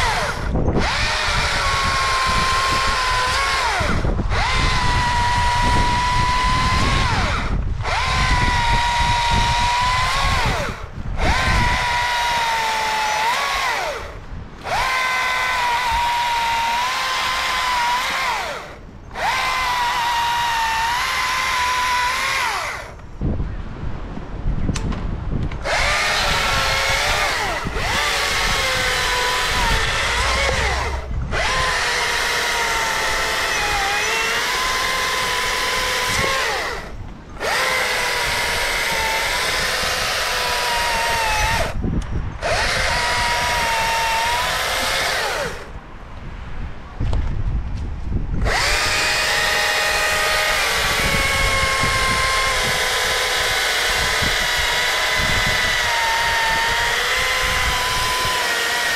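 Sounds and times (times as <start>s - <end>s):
battery chainsaw high whine: 0.0s - 23.1s, 25.5s - 45.8s, 48.4s - 58.9s.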